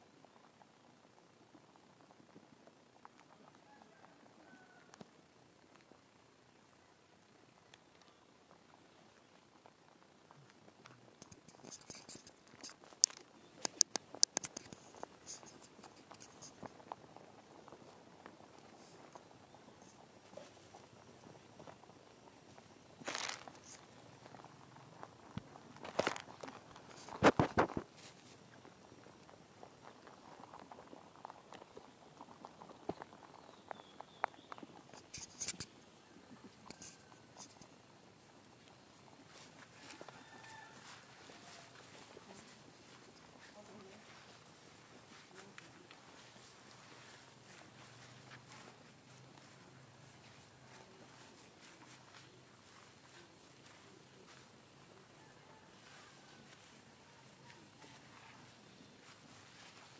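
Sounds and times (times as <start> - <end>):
rabbits chewing crunchily: 0.0 - 59.9.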